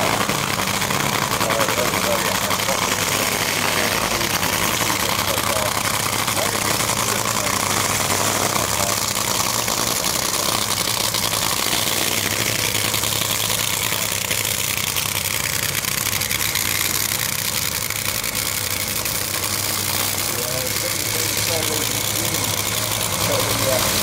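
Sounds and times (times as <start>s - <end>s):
dragster engine idling: 0.0s - 24.0s.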